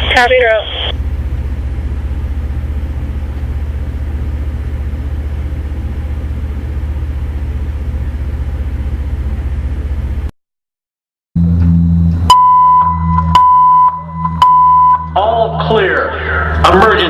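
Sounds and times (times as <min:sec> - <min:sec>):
low engine hum: 0:00.0 - 0:10.3, 0:11.4 - 0:15.2.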